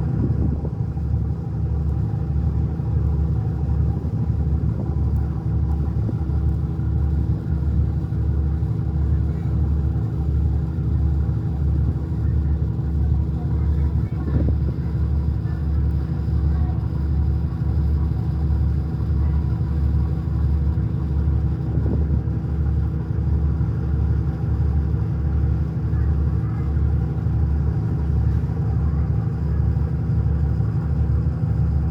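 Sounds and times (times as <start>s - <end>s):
boat diesel engine running: 0.0s - 31.9s.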